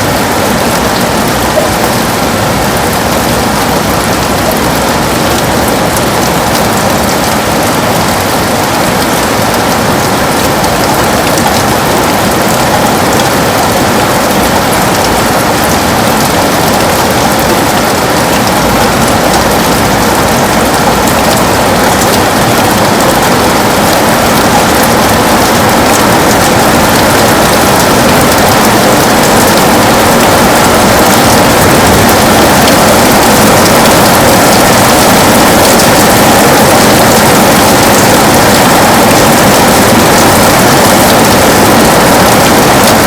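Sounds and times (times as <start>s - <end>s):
heavy rain on a window: 0.0s - 43.0s.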